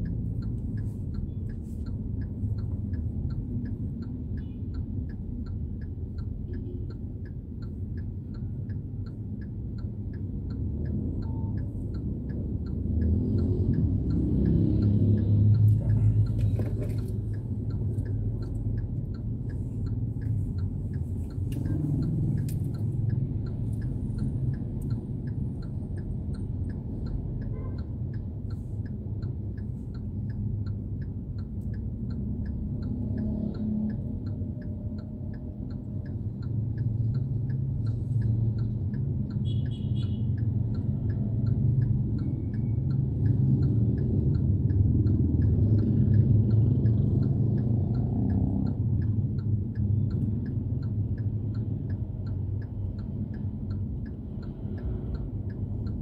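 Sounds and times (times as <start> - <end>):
traffic engines rumbling: 0.0 - 56.0.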